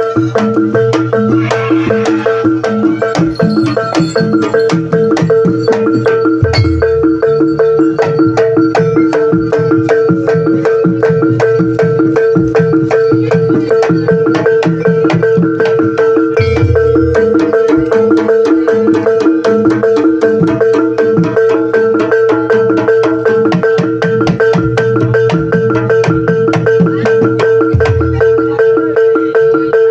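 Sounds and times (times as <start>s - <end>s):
mallet percussion and drums: 0.0s - 29.9s.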